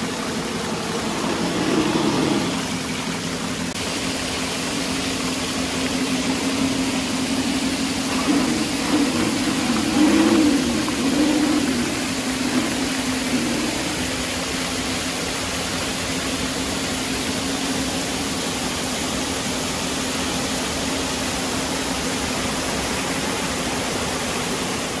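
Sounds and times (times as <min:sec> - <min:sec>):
faint steady hum: 0:00.0 - 0:25.0
waterfall rushing: 0:00.0 - 0:25.0.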